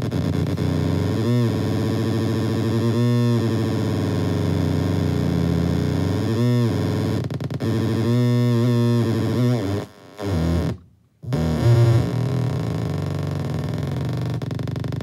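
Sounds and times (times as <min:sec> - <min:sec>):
buzzy distorted electronic drone: 0:00.0 - 0:15.0.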